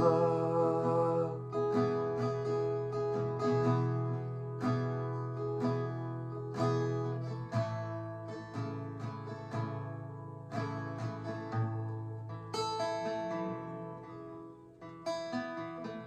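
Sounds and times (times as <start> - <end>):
guitar strumming chords: 0.0 - 16.0.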